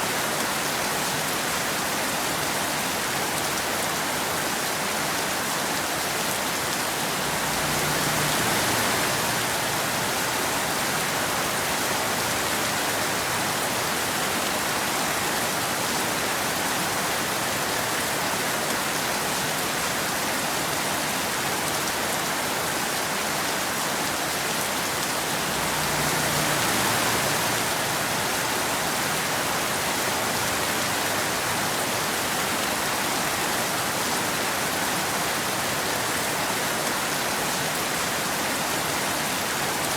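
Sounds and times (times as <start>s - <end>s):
steady rain hiss: 2.3s - 22.4s, 23.0s - 39.9s.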